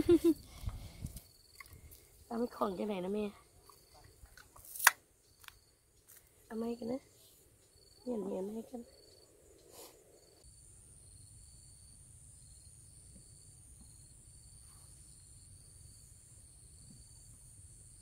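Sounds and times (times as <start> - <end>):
low insect chirp: 0.0 - 18.0
insects trilling: 0.1 - 18.0.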